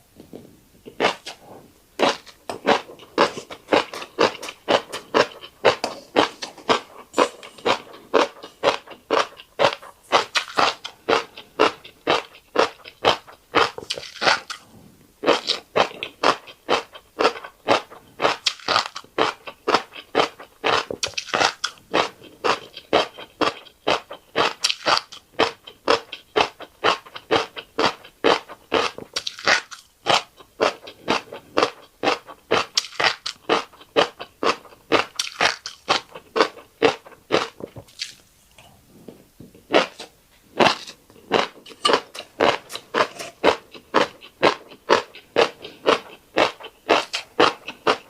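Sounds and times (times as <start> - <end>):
crisp chewing crunches: 2.0 - 38.6, 39.7 - 48.0.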